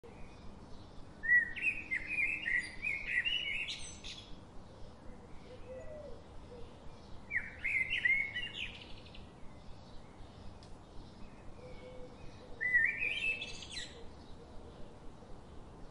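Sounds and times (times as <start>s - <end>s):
bird singing warbling phrases: 0.1s - 4.4s, 5.2s - 14.9s.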